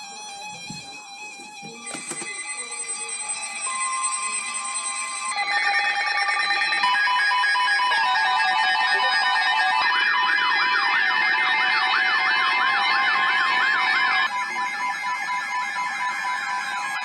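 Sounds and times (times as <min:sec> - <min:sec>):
siren-like warble: 0:01.6 - 0:17.0
steady electronic beeps: 0:01.8 - 0:17.0.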